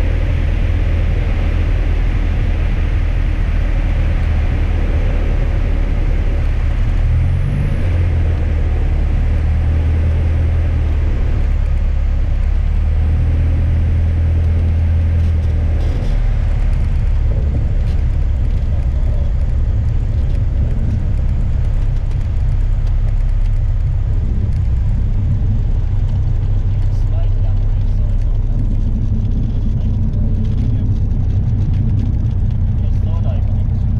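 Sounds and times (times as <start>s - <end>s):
light aircraft engine and propeller: 0.0s - 33.9s.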